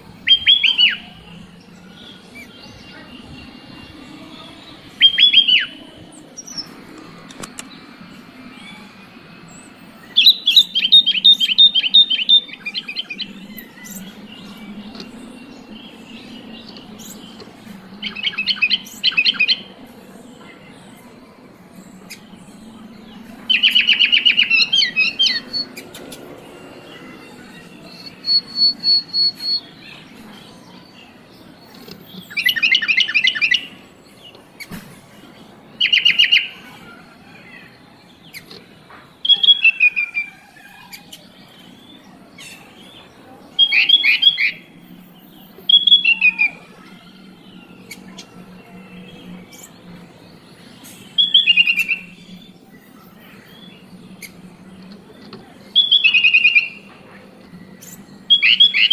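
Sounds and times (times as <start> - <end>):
bird chattering song: 0.0 - 58.9.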